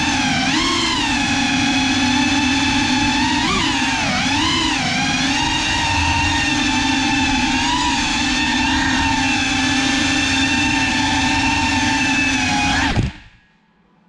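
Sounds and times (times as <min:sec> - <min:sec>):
drone motors whining: 0:00.0 - 0:13.6.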